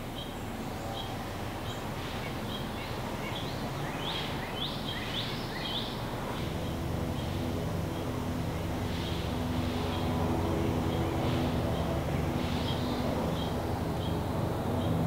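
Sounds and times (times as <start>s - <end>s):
outdoor hiss: 0.0s - 14.0s
bird chirping: 0.0s - 15.0s
low steady hum: 0.0s - 15.0s.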